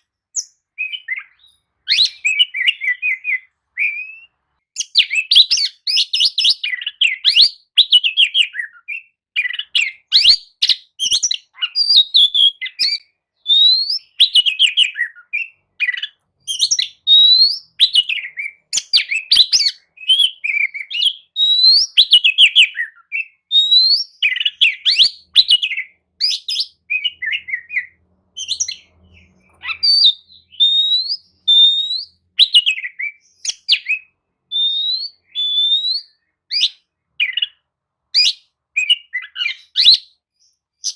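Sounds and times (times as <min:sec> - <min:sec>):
magpie-robin singing: 0:00.0 - 0:40.9.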